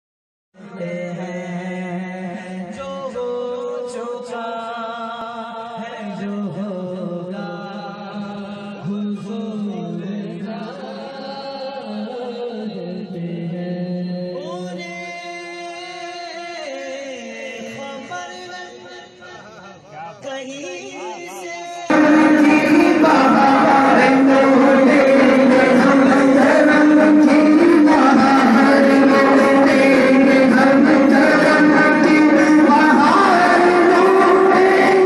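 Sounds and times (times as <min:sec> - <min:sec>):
devotional vocal chanting: 0:00.6 - 0:35.0.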